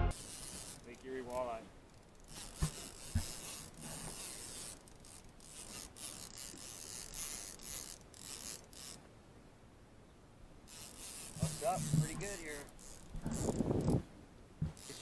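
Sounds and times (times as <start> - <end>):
fishing reel whirring: 0.1 - 9.0, 10.7 - 14.0, 14.7 - 15.0.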